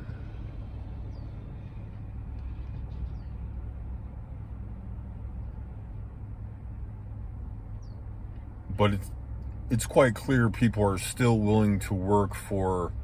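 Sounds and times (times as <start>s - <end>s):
car rumbling on the move: 0.0s - 13.0s.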